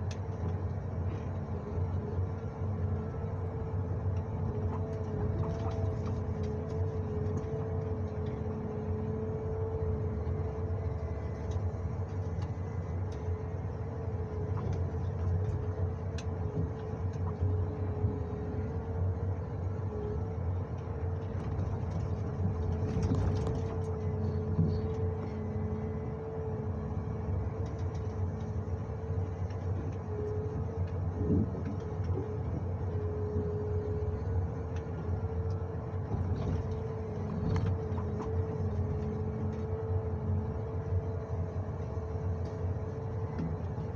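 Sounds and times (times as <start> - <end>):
constant whine: 0.0 - 43.9
diesel engine running: 0.0 - 43.9.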